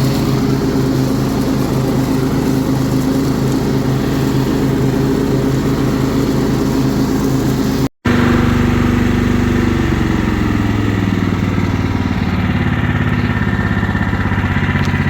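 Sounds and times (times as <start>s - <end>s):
riding lawn mower engine running: 0.0s - 15.0s.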